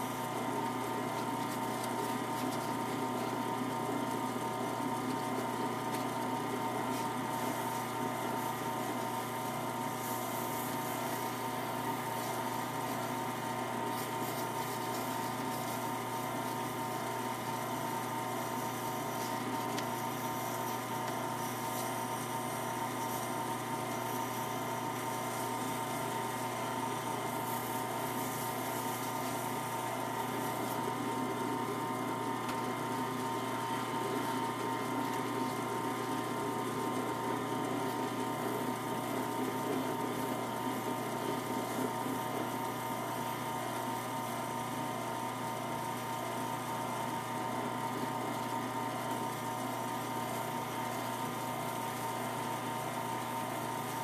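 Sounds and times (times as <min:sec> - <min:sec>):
wood lathe motor hum: 0:00.0 - 0:54.0.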